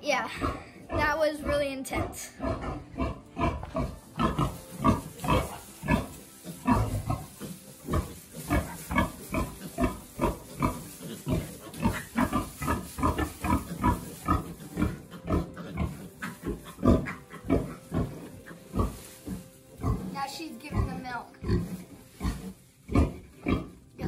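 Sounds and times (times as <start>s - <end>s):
pig grunting: 0.2s - 24.0s.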